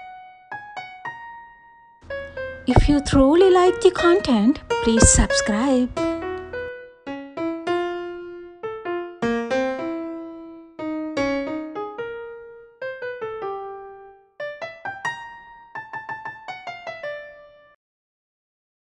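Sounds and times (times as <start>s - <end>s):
slow solo piano melody: 2.1s - 17.8s.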